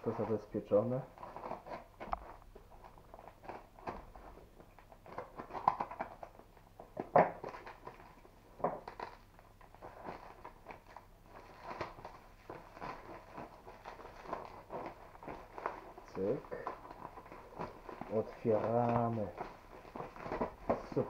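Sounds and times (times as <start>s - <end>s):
packing tape crinkling and rustling: 0.0s - 21.0s.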